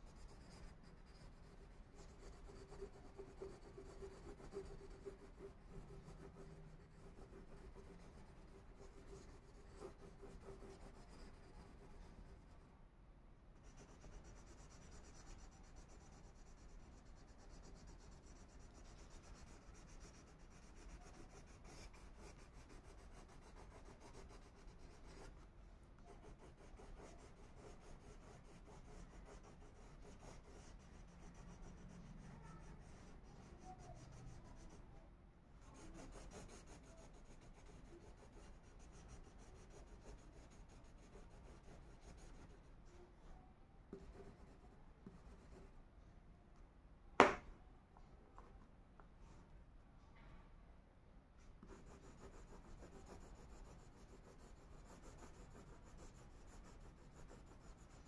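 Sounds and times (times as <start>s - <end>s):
crayon scratching on paper: 0.0s - 12.6s, 13.6s - 34.8s, 35.6s - 43.0s, 43.9s - 45.7s, 51.6s - 58.0s.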